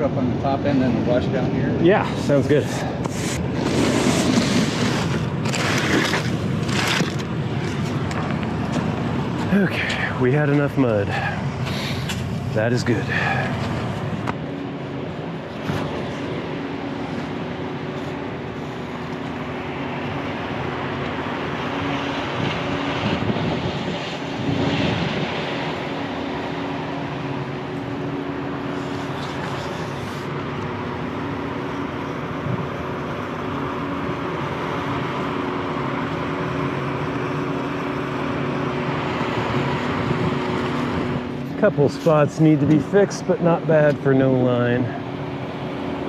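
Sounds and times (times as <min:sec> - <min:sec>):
diesel engine running: 0:00.0 - 0:46.0
rush of noise: 0:00.0 - 0:46.0.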